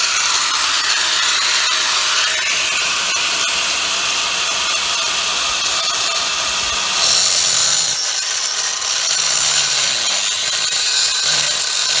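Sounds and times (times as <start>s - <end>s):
power tool grinding: 0.0s - 12.0s.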